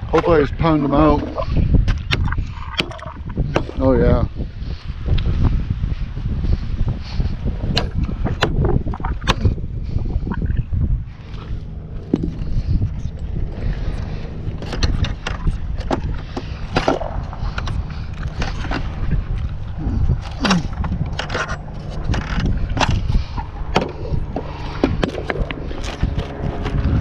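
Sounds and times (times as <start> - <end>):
low wind rumble: 0.0 - 27.0.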